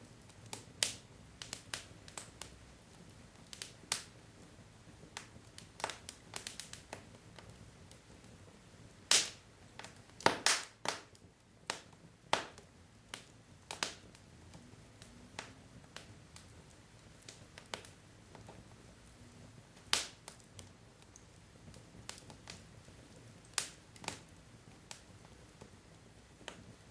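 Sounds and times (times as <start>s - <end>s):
faint low hiss: 0.0s - 26.9s
wood fire crackling: 0.0s - 26.9s.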